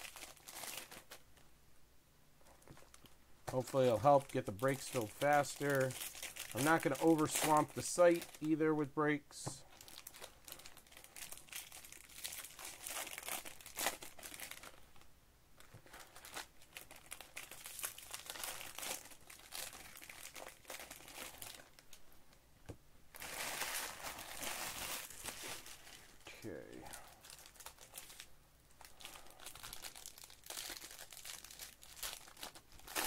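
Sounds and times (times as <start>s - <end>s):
foil wrappers crinkling: 0.0s - 1.2s, 2.6s - 8.7s, 9.3s - 22.0s, 23.1s - 26.3s, 26.9s - 33.0s.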